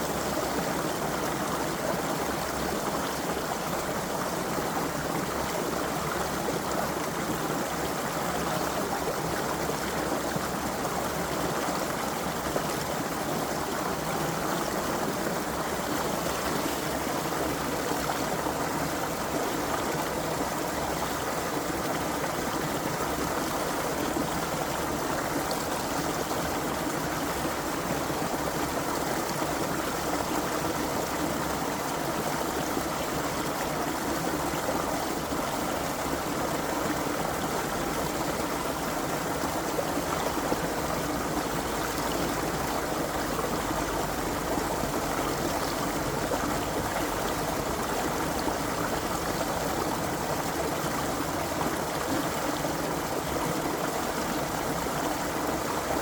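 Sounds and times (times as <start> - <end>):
creek water running over stones: 0.0 - 56.0.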